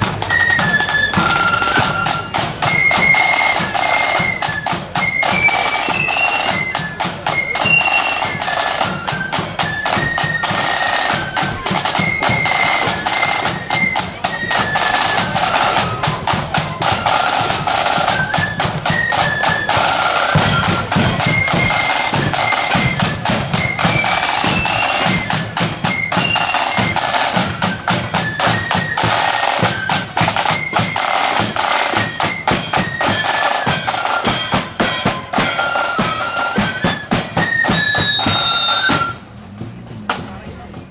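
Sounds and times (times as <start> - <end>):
flutes playing melody: 0.0 - 39.5
snare drum strokes: 0.0 - 40.9.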